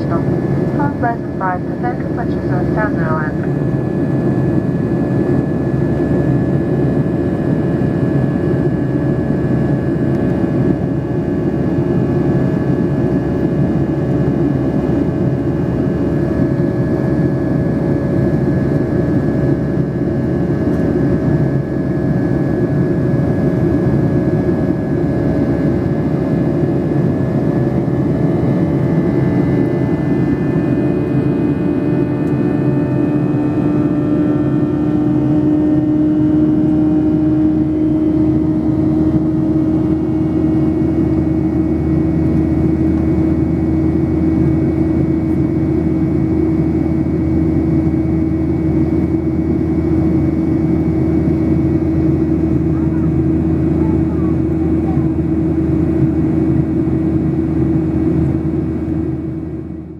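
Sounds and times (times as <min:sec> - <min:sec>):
jet engines rushing and humming: 0:00.0 - 0:59.9.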